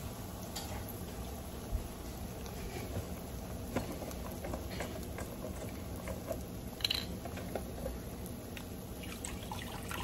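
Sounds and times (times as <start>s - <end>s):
onions sizzling in a skillet: 0.0s - 10.0s.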